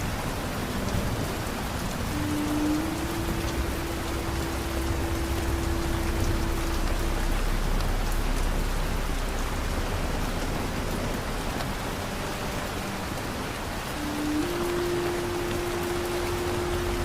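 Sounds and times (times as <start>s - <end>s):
steady rain falling: 0.0s - 17.0s
faint low tone: 2.1s - 17.0s.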